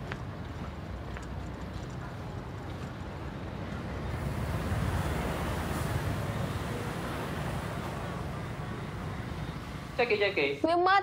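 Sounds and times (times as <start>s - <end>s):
street rumble and hiss: 0.0s - 11.0s.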